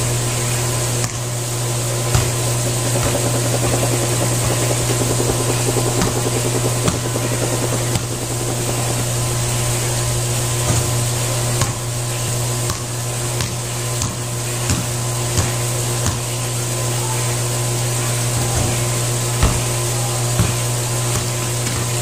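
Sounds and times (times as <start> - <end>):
droning hum: 0.0 - 22.0.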